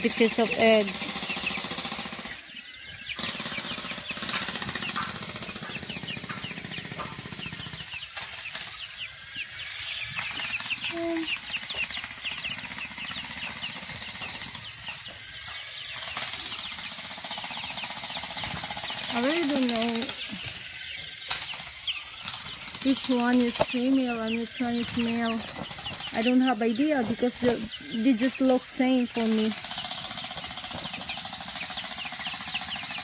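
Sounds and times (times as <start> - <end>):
chicks peeping: 0.0 - 33.0
steady rapid buzzing: 0.0 - 33.0.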